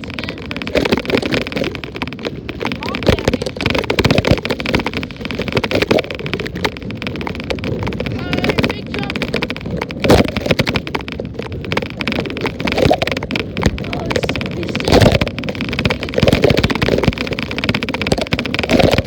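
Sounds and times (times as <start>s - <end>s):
small knocks from road: 0.0s - 19.0s
wind buffeting: 0.0s - 19.0s.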